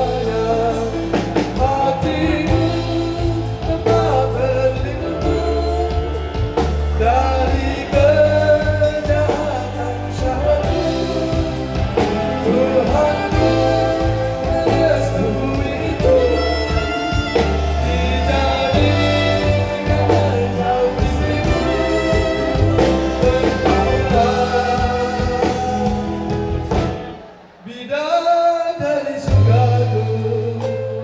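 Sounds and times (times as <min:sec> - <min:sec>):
person singing: 0:00.0 - 0:26.8
bass guitar: 0:00.0 - 0:27.5, 0:29.3 - 0:31.0
live band playing pop song: 0:00.0 - 0:31.0.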